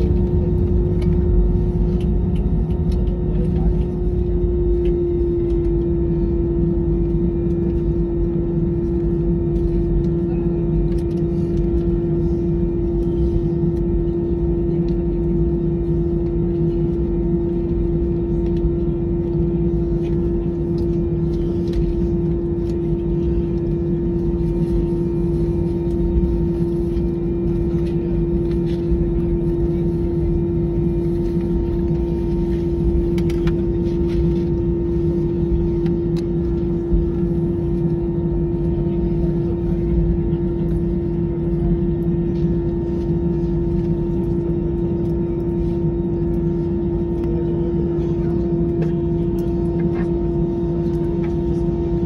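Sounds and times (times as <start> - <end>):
aircraft cabin engine hum: 0.0 - 52.0
low rumble: 0.0 - 52.0.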